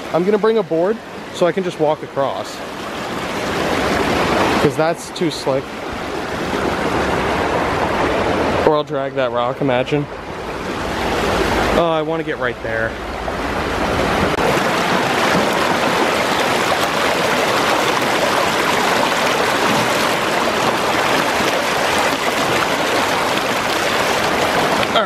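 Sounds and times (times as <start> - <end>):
stream water rushing over rocks: 0.0 - 25.0.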